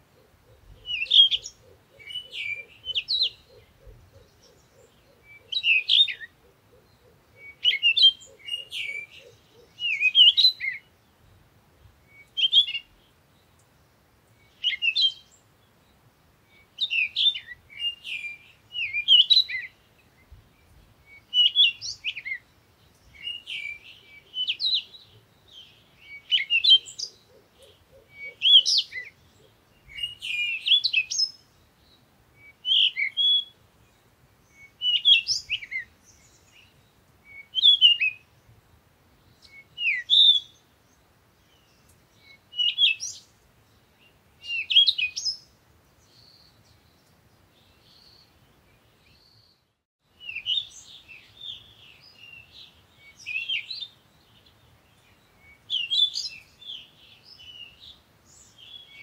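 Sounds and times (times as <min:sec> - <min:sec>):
bird chirping and twittering: 0:00.3 - 0:11.5, 0:16.5 - 0:38.3, 0:41.5 - 0:59.0.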